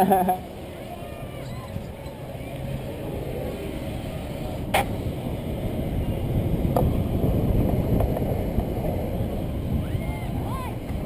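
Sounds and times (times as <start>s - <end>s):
bike tyres rumbling on trail: 0.4s - 11.0s.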